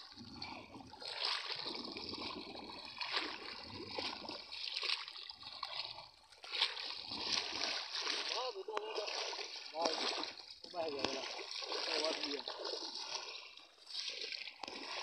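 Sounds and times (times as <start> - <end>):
water sloshing around wading legs: 0.0 - 15.0.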